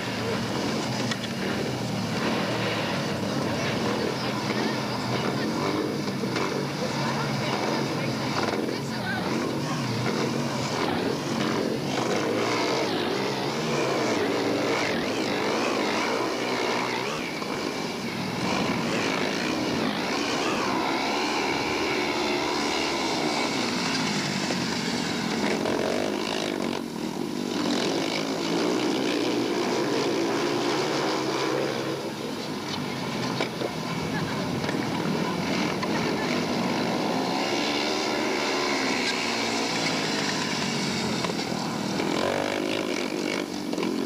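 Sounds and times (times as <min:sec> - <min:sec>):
motorcycle engines racing: 0:00.0 - 0:44.0.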